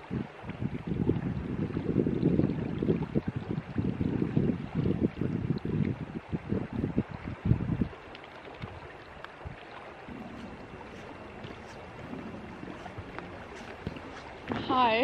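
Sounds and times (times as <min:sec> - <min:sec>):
wind buffeting microphone: 0:00.0 - 0:15.0
river water flowing over rocks: 0:01.6 - 0:15.0.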